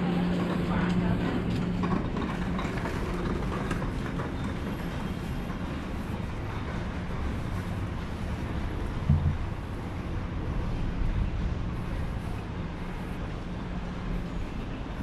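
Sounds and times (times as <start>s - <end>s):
low hum: 0.0s - 15.0s
rumble of vehicle traffic: 0.0s - 15.0s.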